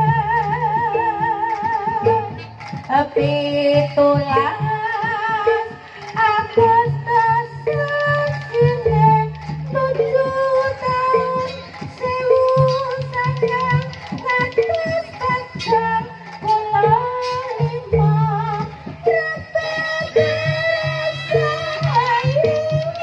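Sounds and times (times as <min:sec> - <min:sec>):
gamelan ringing notes: 0:00.0 - 0:23.0
person singing: 0:00.0 - 0:23.0.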